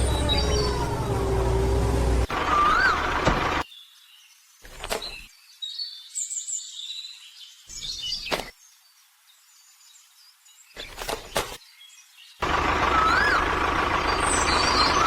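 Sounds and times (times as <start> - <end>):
faint high bird chirps: 0.0 - 1.5, 2.4 - 8.9, 9.5 - 15.0.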